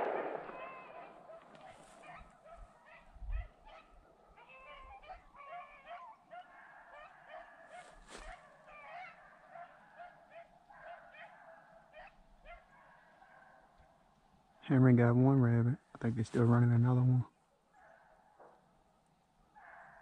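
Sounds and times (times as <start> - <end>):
faint dogs baying: 0.0 - 20.0.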